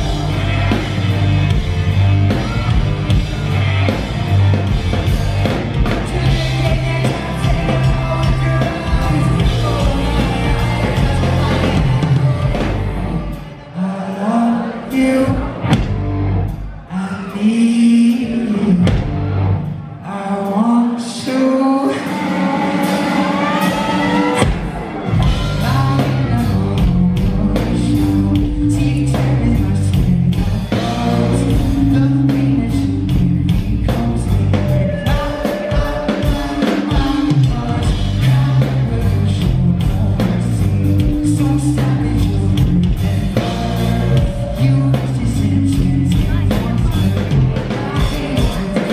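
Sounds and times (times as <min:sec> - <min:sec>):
bass guitar: 0:00.0 - 0:13.7, 0:14.9 - 0:20.1, 0:22.0 - 0:48.9
electric guitar: 0:00.0 - 0:13.7, 0:21.1 - 0:48.9
drums: 0:00.0 - 0:48.9
person singing lead vocals: 0:00.0 - 0:48.9.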